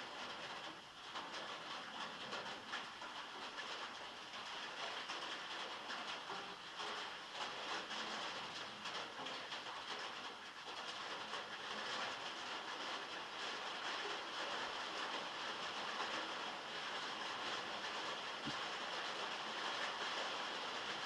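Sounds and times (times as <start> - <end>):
heavy rain on a metal roof: 0.0 - 21.0.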